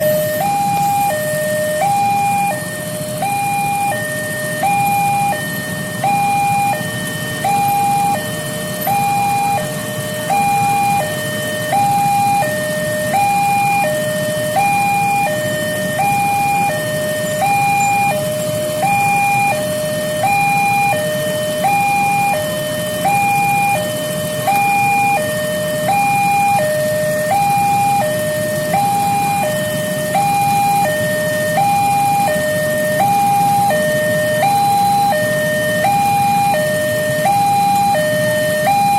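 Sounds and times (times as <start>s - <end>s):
level crossing alarm two tones: 0.0s - 38.9s.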